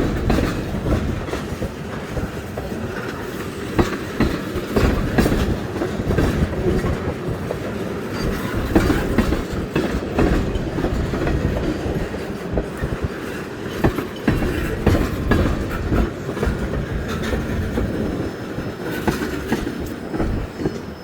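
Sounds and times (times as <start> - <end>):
train rumbling past: 0.0 - 21.0
wheels clacking over rail joints: 0.0 - 21.0.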